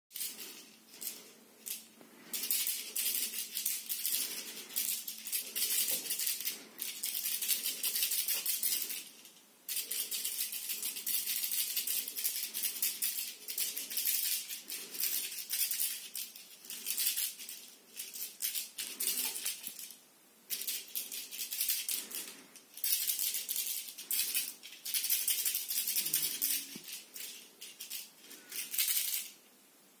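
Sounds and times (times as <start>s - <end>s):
toy ball rattling: 0.1s - 29.4s.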